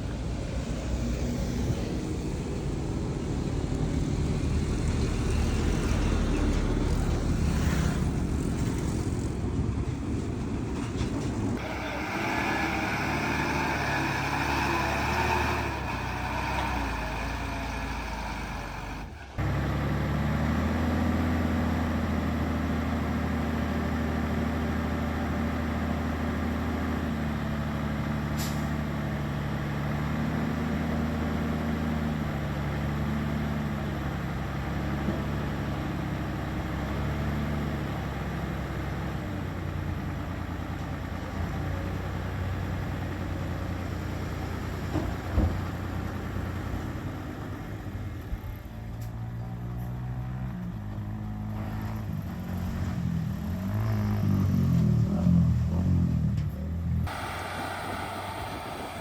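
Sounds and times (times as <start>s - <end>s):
diesel earthmoving machinery running: 0.0s - 54.1s.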